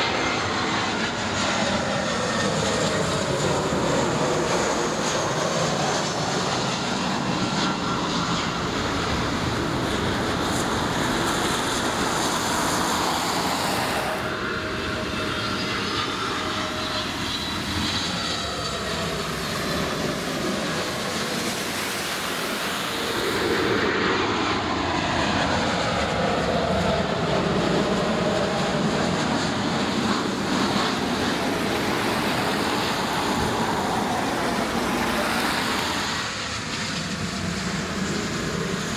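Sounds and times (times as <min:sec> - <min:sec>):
jet airliner engines: 0:00.0 - 0:38.9.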